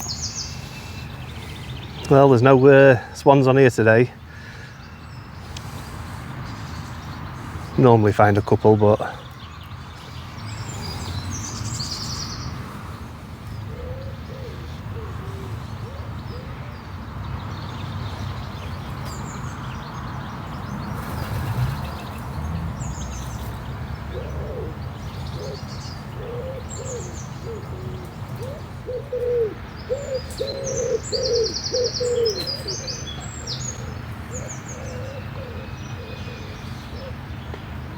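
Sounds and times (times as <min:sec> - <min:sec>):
birds cooing: 0:00.0 - 0:37.9
small birds chirping: 0:00.0 - 0:37.9.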